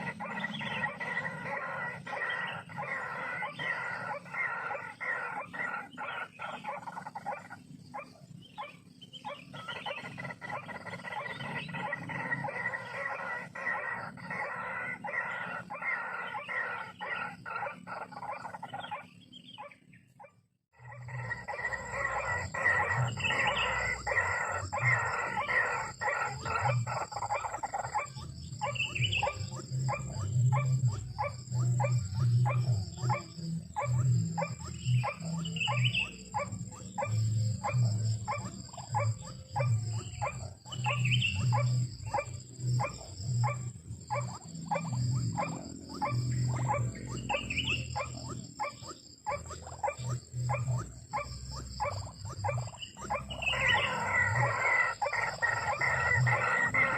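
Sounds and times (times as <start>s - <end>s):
birds croaking calls: 0.0s - 56.9s.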